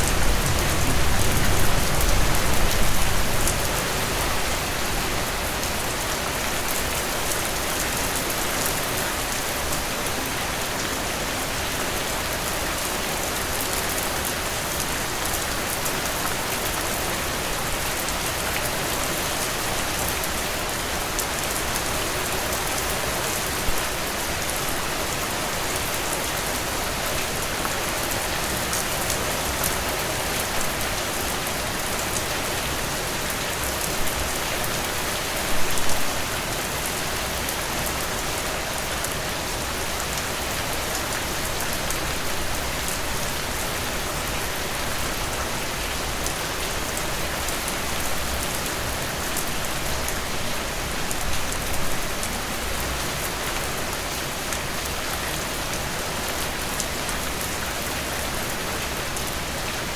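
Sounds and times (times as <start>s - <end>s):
heavy rain downpour: 0.0s - 59.9s
rain spatters: 0.0s - 59.9s.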